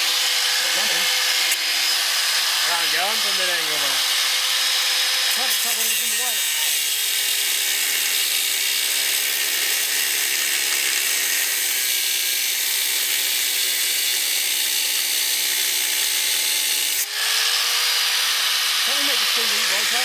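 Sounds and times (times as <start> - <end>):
angle grinder cutting metal: 0.0 - 20.0.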